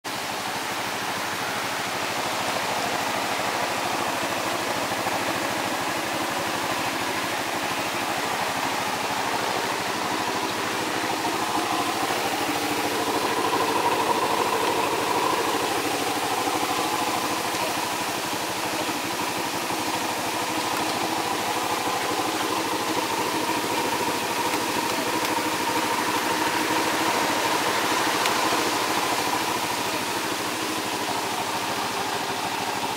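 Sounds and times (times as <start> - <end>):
quad engine idling: 0.0 - 32.9.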